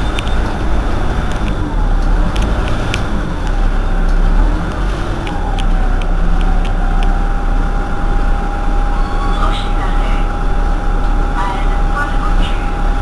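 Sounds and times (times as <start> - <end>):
bus engine idling: 0.0 - 13.0
faint whining tone: 0.0 - 13.0.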